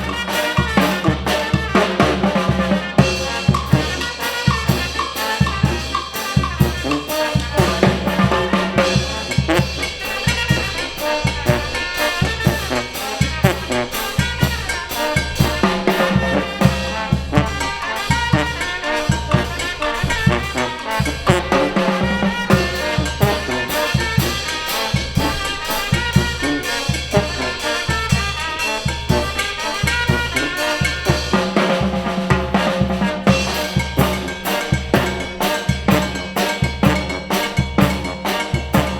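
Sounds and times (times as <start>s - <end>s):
drums driving beat: 0.0s - 38.9s
trumpets and trombones: 0.0s - 38.9s.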